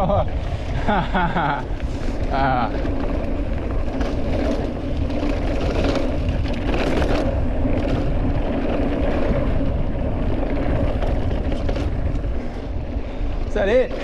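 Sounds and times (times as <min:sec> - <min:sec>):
steady low drone: 0:00.0 - 0:14.0
wind rushing over microphone: 0:00.0 - 0:14.0.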